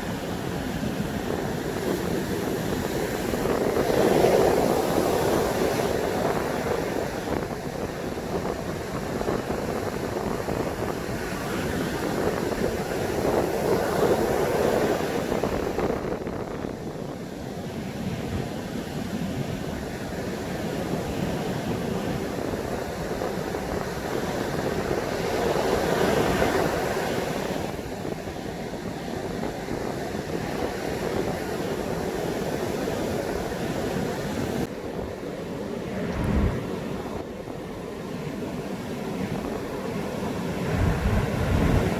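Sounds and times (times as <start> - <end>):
surf breaking on a beach: 0.0 - 41.9
wind rumbling on microphone: 0.0 - 41.9.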